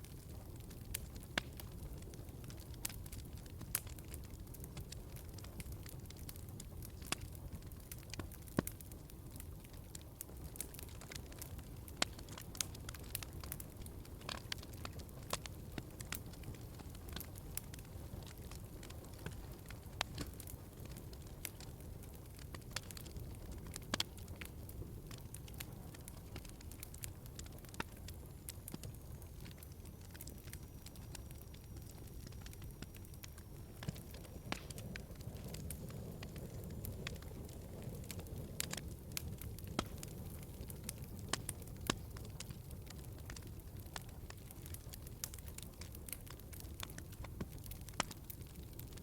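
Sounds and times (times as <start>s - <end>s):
fire pops and snaps: 0.0s - 49.0s
wood fire crackling: 0.0s - 49.0s.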